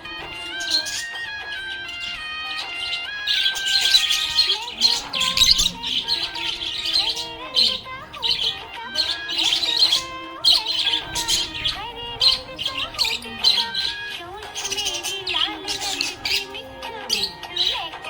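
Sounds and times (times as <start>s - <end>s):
budgerigar chirping and warbling: 0.0s - 18.0s
melodic music: 0.0s - 18.0s.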